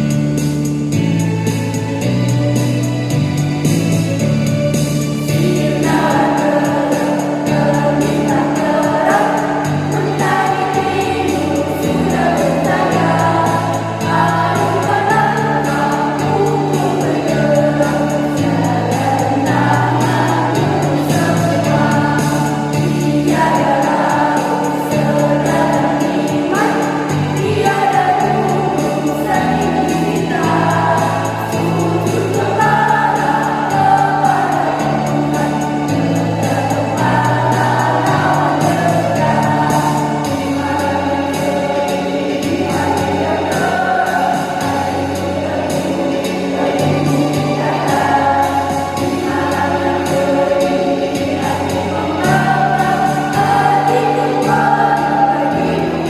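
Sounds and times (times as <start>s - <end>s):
instrumental backing: 0.0s - 56.0s
choir singing a march: 4.8s - 56.0s.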